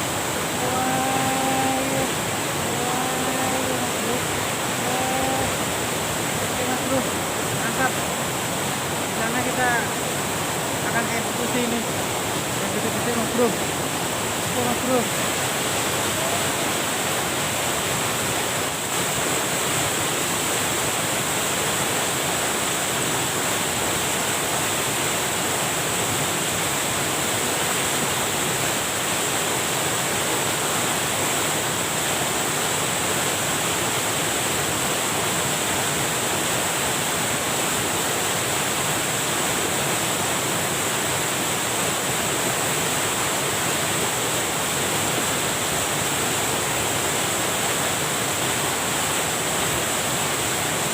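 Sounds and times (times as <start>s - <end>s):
water rushing over weir: 0.0s - 50.9s.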